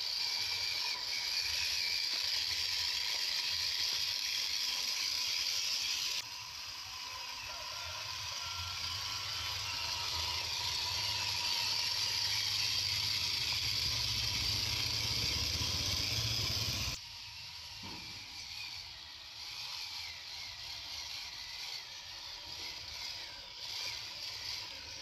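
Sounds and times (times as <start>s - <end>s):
toy car motor whirring: 0.0s - 25.0s.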